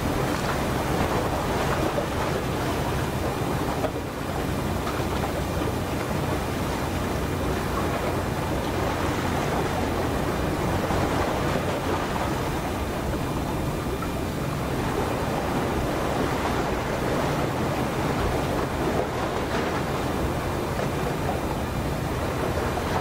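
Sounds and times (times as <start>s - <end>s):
ship machinery rumble: 0.0s - 23.0s
water washing along hull: 0.0s - 23.0s
wind on microphone: 0.0s - 23.0s.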